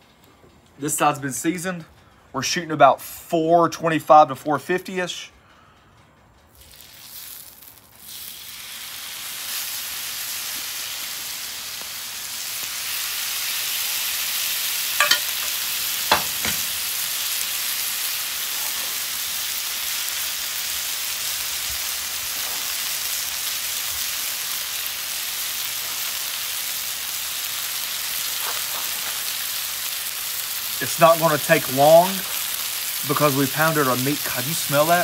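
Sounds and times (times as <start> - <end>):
steaks sizzling on a griddle: 6.6 - 35.0.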